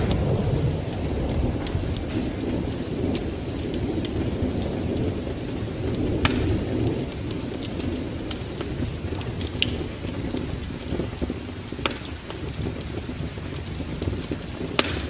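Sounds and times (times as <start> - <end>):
low fire rumble: 0.0 - 15.0
wood fire crackling and popping: 0.0 - 15.0.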